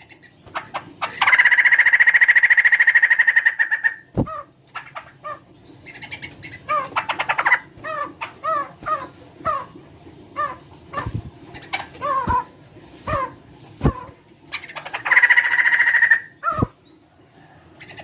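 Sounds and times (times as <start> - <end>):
bird clucking notes: 0.0 - 18.0.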